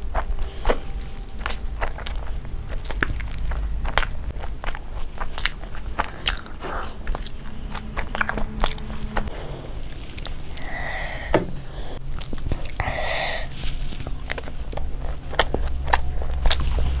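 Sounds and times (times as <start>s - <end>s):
person chewing burger: 0.0s - 8.6s, 12.0s - 17.0s.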